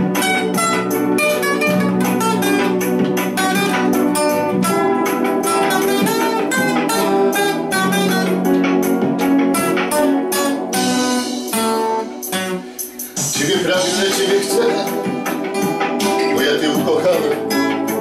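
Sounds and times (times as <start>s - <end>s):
acoustic guitar solo: 0.0s - 18.0s.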